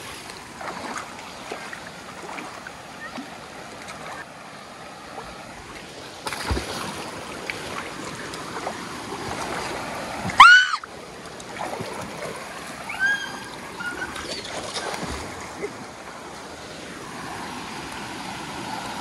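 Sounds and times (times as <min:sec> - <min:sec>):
rushing water: 0:00.0 - 0:19.0
splashing through a stream: 0:00.0 - 0:19.0.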